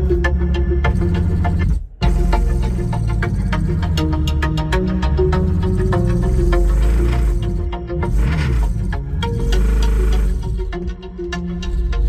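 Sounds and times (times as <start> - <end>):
music with heavy bass: 0.0 - 12.0.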